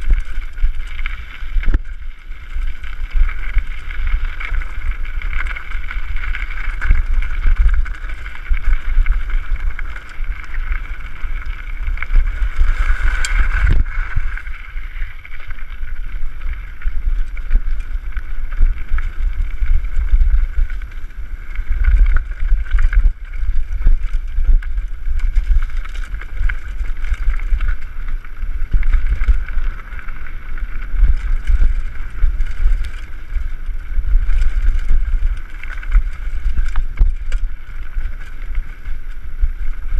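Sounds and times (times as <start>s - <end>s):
bike rattling: 0.0s - 39.9s
tyres on gravel trail: 0.0s - 39.9s
wind buffeting microphone: 0.0s - 39.9s.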